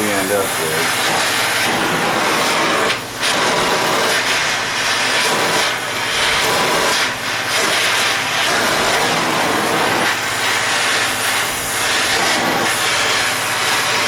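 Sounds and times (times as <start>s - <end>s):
gas torch flame roaring hiss: 0.0s - 14.0s.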